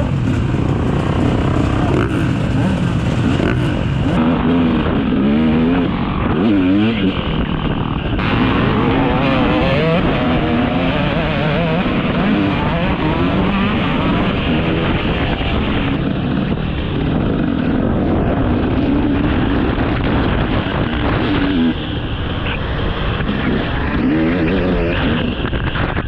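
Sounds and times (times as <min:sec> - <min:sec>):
dirt bike engine revving: 0:00.0 - 0:25.5.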